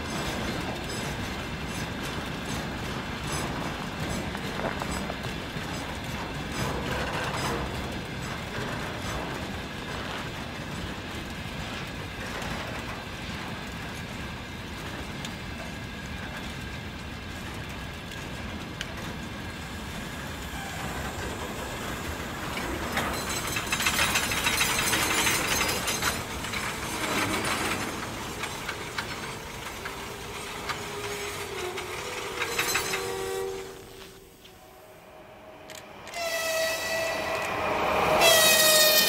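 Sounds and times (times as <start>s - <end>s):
freight train wheels rumbling on rails: 0.0s - 39.0s.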